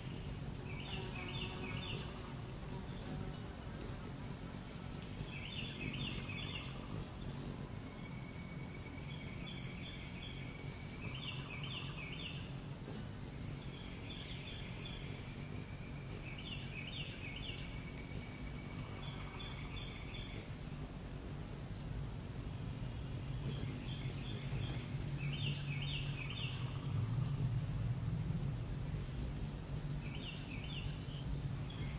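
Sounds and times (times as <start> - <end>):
low outdoor rumble: 0.0 - 31.9.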